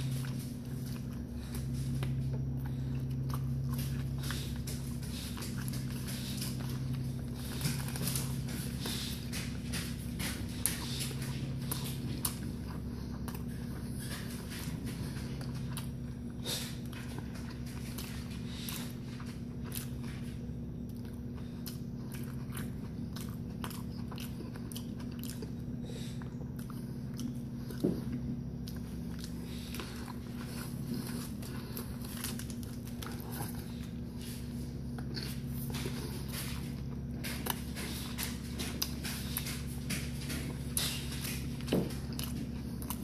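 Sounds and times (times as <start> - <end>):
man chewing with wet mouth clicks: 0.0 - 43.0
steady low hum: 0.0 - 43.0.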